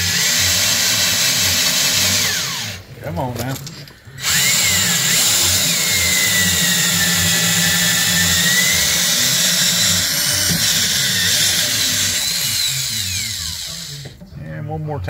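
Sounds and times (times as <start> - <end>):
power drill whining: 0.0 - 2.8, 3.5 - 14.2.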